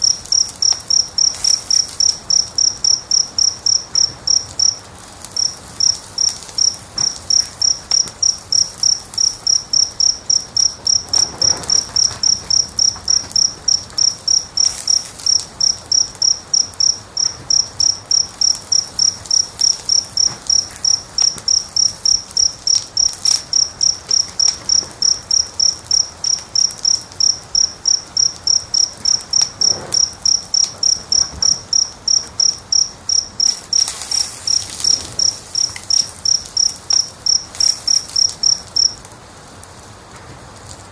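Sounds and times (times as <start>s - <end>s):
cricket chirping: 0.0s - 39.1s
wood fire crackling: 0.0s - 40.9s.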